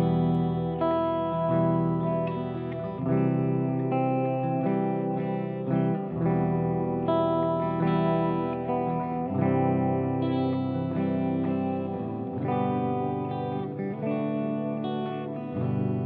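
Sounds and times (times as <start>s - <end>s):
electric guitar chords with delay: 0.0s - 16.0s.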